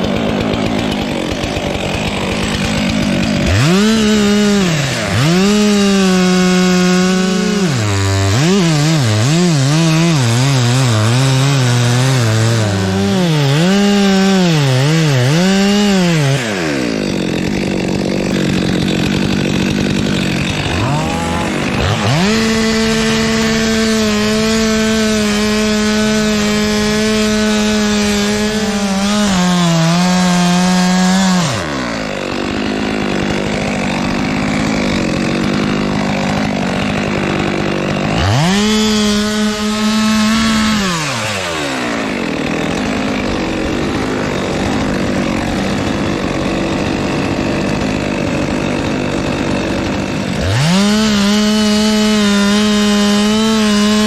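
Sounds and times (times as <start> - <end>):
chainsaw revving while cutting wood: 0.0 - 54.0.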